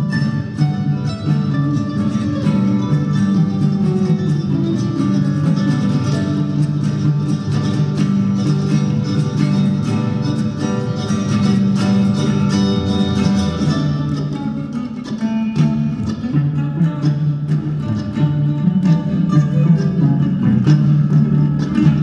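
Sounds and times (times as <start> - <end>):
plucked guitar: 0.0 - 22.0
string band playing: 0.0 - 22.0.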